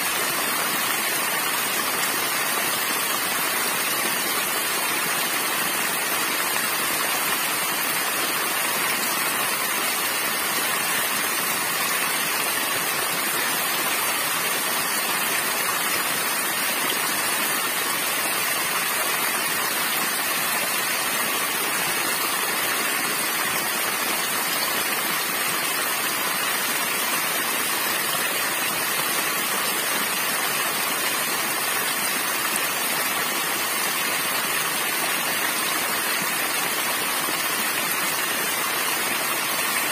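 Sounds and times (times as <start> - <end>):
small waterfall splashing into pool: 0.0 - 39.9.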